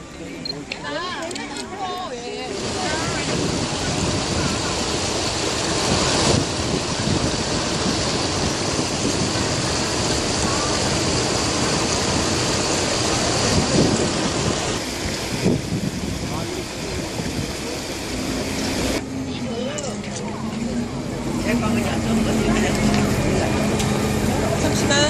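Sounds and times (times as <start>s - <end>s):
outdoor crowd hubbub: 0.0s - 25.0s.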